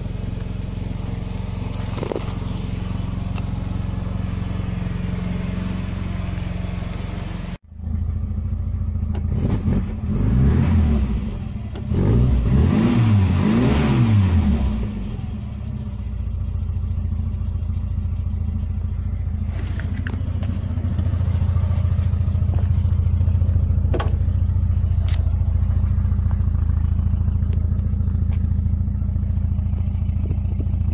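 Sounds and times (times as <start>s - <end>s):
car engine idling: 0.0s - 12.0s, 14.3s - 30.9s.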